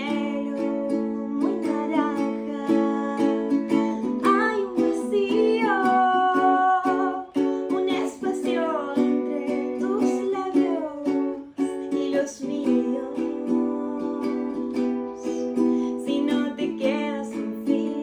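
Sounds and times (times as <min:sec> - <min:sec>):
strummed acoustic string instrument: 0:00.0 - 0:18.0
woman singing: 0:00.0 - 0:18.0.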